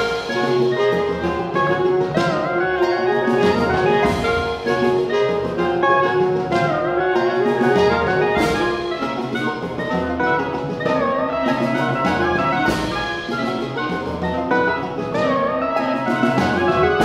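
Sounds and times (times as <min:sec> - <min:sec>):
chamber ensemble playing a waltz: 0:00.0 - 0:17.0.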